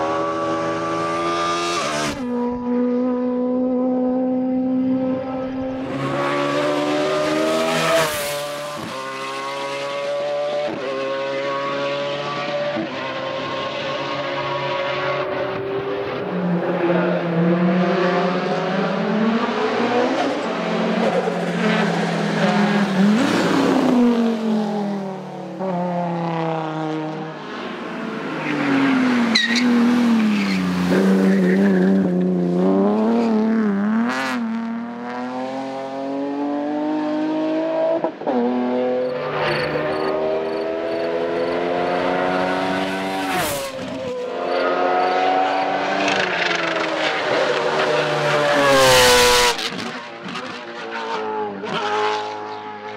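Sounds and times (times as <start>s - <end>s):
race car engine revving: 0.0s - 27.3s, 28.2s - 52.9s.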